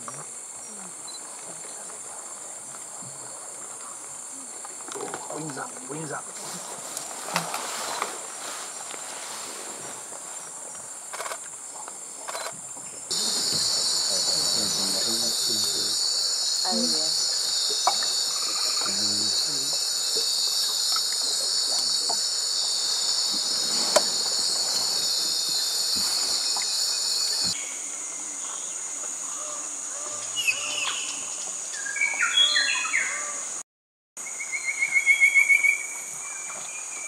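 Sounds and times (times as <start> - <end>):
forest ambience: 0.0 - 33.6, 34.2 - 37.0
insect chorus shrilling: 0.0 - 33.6, 34.2 - 37.0.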